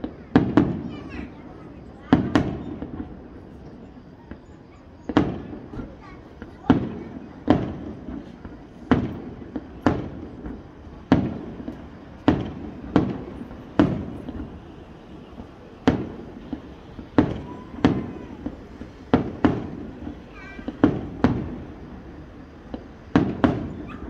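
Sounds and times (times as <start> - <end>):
fireworks bangs with rolling echo: 0.0 - 24.0.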